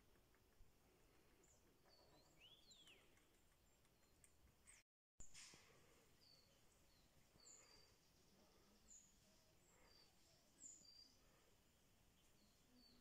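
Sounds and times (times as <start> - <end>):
small birds chirping: 0.0 - 4.8, 5.8 - 13.0.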